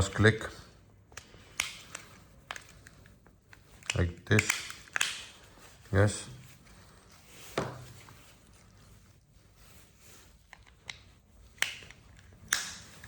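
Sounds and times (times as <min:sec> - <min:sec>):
faint handling noise: 0:00.0 - 0:13.0.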